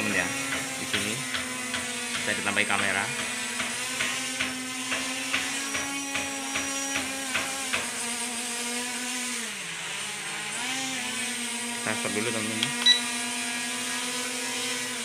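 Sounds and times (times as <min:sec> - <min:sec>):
toy drone motors buzzing: 0:00.0 - 0:15.0.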